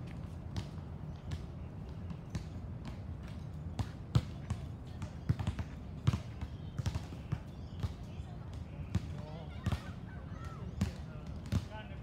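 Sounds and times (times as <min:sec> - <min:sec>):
basketballs bouncing: 0:00.1 - 0:12.0.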